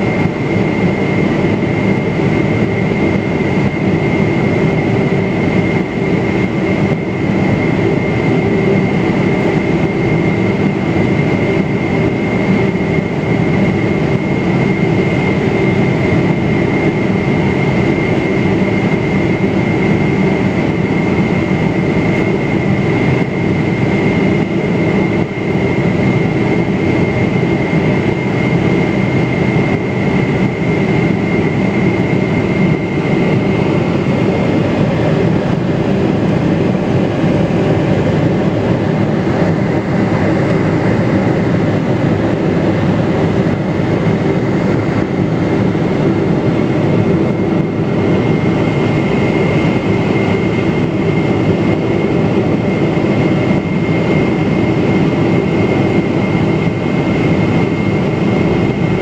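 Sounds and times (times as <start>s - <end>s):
airplane cabin engine rumble: 0.0s - 59.0s
high engine whine: 0.0s - 59.0s.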